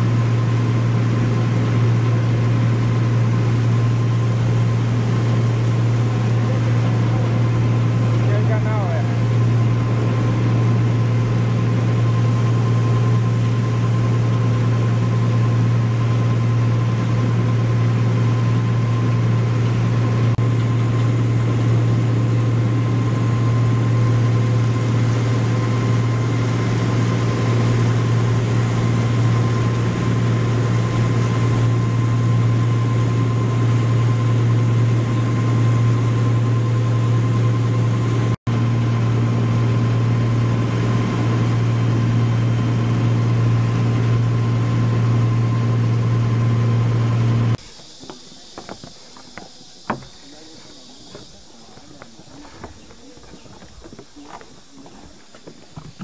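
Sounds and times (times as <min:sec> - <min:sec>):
water and wind rushing: 0:00.0 - 0:47.0
boat motor droning: 0:00.0 - 0:56.0.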